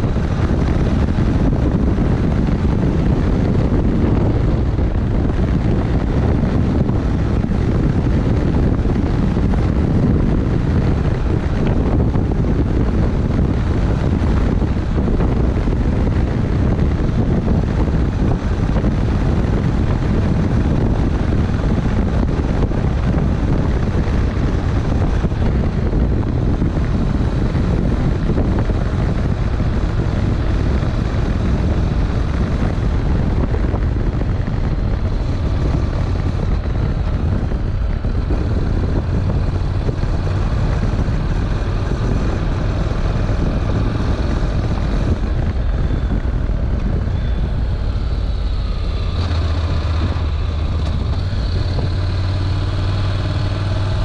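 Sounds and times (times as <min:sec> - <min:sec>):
motorcycle engine cruising: 0:00.0 - 0:54.0
wind buffeting microphone: 0:00.0 - 0:54.0.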